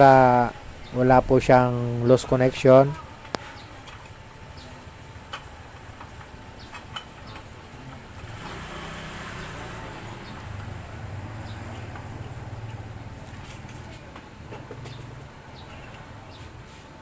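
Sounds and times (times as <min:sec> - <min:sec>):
vehicle engine rumble: 0:03.2 - 0:17.0.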